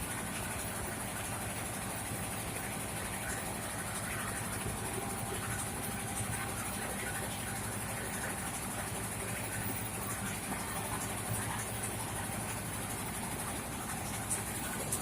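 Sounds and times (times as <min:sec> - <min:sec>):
rice milling machine humming: 0:00.0 - 0:15.0.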